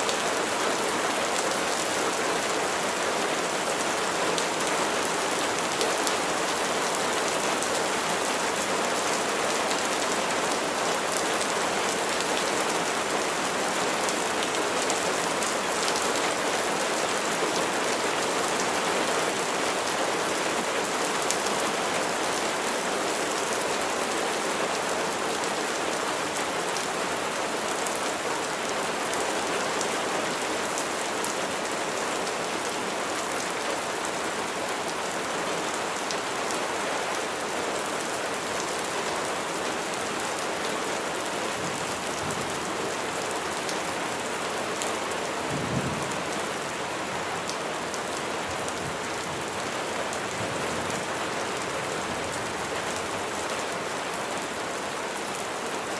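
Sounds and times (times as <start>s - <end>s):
steady rain pattering: 0.0s - 55.9s.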